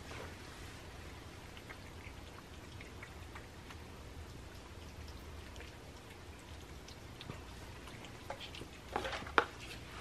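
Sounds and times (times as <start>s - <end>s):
cats lapping and chewing: 0.0s - 10.0s.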